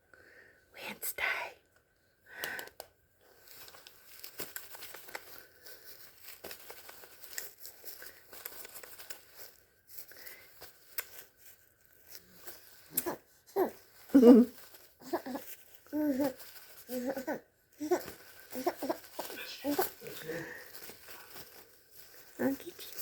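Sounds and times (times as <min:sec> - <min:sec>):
rustling and crinkling handling noise: 0:02.7 - 0:23.0.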